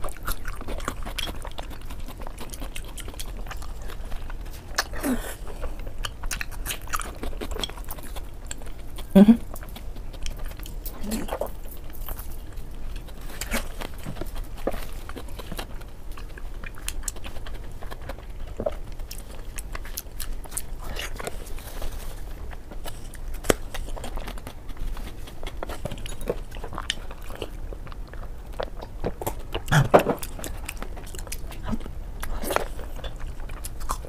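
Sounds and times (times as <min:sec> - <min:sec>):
closed mouth chewing: 0:00.0 - 0:34.0.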